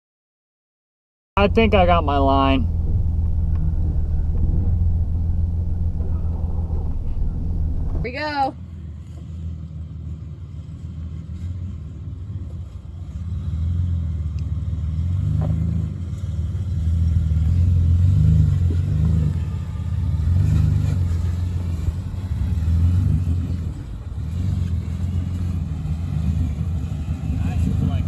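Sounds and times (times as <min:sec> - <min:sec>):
truck engine rumbling: 0:01.4 - 0:28.0.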